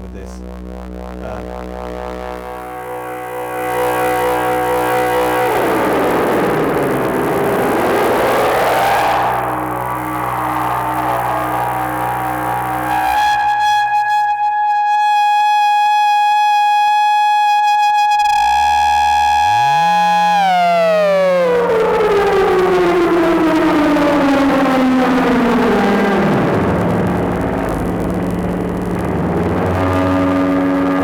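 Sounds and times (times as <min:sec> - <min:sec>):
buzzy synthesizer tones gliding: 0:00.0 - 0:31.0
low synthesizer drone: 0:00.0 - 0:31.0.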